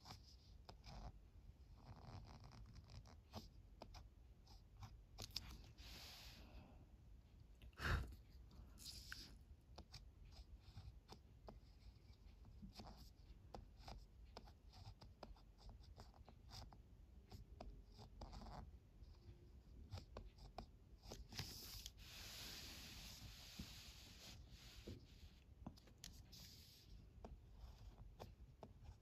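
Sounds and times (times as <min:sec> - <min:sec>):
pen scratching on paper: 0:00.0 - 0:06.2, 0:08.8 - 0:29.0.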